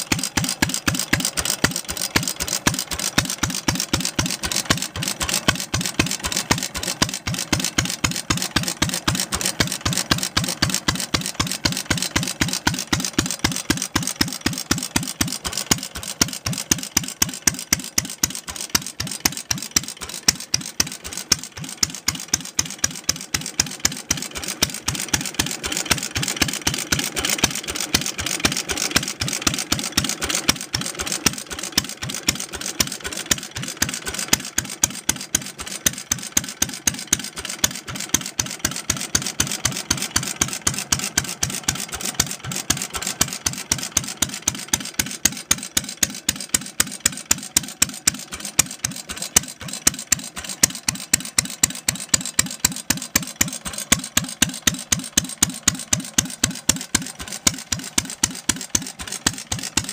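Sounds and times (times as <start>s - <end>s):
stationary engine running: 0.0s - 59.9s.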